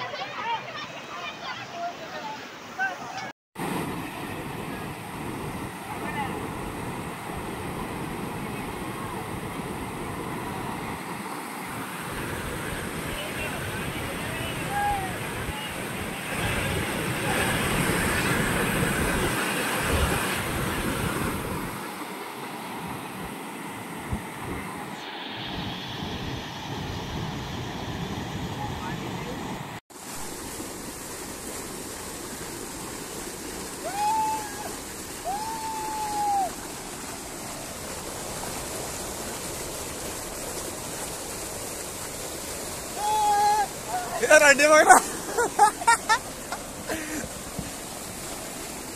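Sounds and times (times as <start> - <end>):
floodwater rushing: 0.0 - 48.9.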